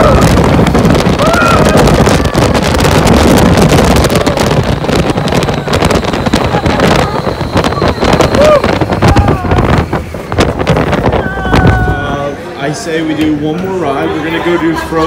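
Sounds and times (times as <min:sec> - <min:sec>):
ride car rumbling on track: 0:00.0 - 0:15.0
wind buffeting microphone: 0:00.0 - 0:15.0.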